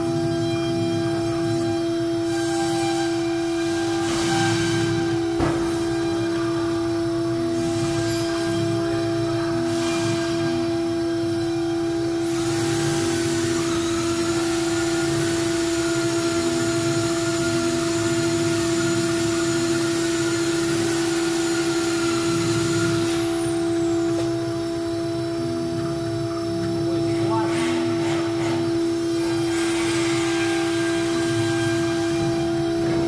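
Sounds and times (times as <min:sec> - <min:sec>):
hissing machine with high whine: 0:00.0 - 0:33.0
wood router spindle humming: 0:00.0 - 0:33.0.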